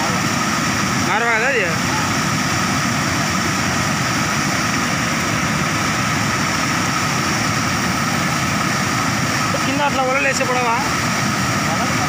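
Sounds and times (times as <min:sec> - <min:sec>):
water rushing past a weir: 0:00.0 - 0:12.0.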